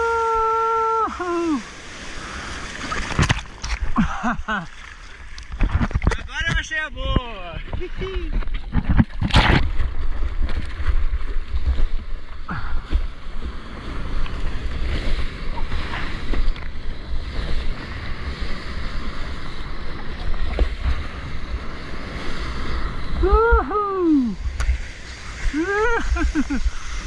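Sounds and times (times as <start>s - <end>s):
water splashing around surfboard: 1.6s - 23.5s.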